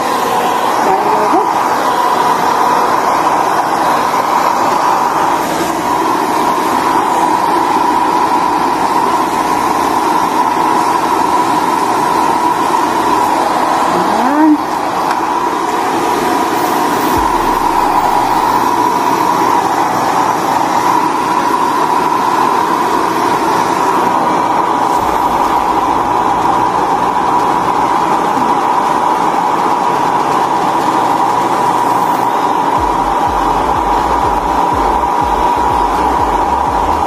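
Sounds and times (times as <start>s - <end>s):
hair dryer running: 0.0s - 37.0s.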